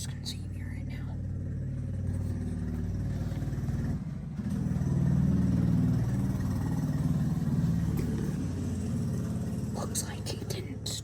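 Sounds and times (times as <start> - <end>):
small motorbike engine running: 0.0 - 10.8.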